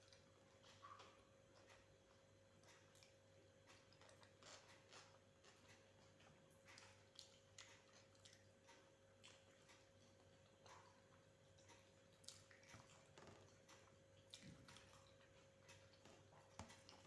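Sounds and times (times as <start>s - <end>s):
low steady hum: 0.0s - 17.0s
person chewing food: 0.0s - 17.0s.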